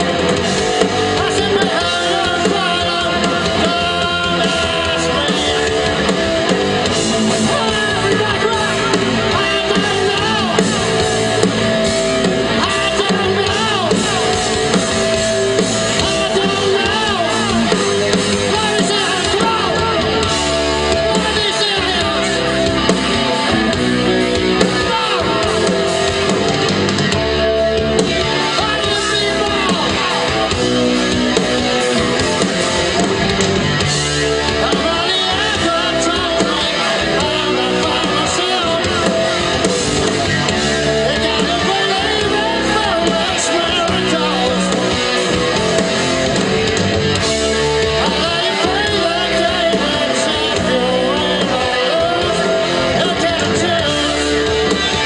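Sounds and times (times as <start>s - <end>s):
electric guitar: 0.0s - 55.0s
rock band playing live: 0.0s - 55.0s.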